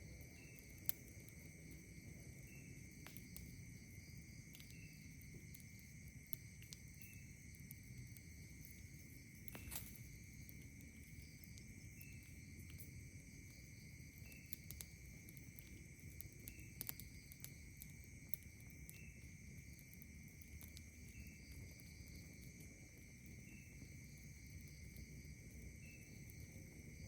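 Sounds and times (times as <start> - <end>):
campfire crackling and popping: 0.0 - 27.0
night insects trilling: 0.0 - 27.0
short insect chirp: 0.0 - 27.0.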